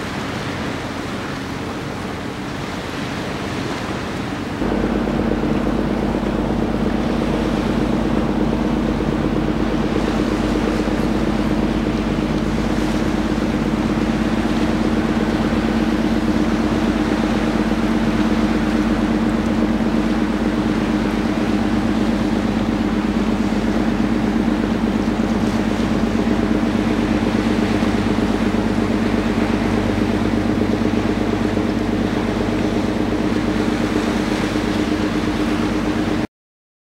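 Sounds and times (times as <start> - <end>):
ship engines droning: 0.0 - 36.3.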